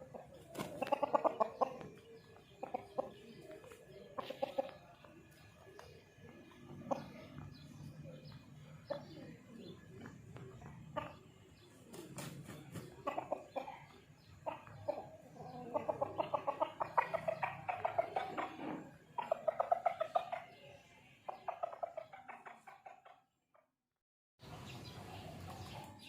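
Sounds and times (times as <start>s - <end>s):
chickens clucking: 0.0s - 23.7s, 24.4s - 26.0s.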